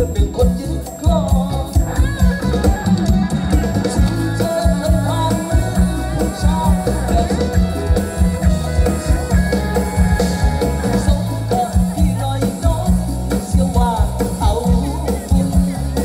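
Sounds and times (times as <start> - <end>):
bass guitar: 0.0 - 16.0
drum kit beat: 0.0 - 16.0
electric guitar: 0.0 - 16.0
keyboard: 0.0 - 16.0
person singing: 0.0 - 16.0.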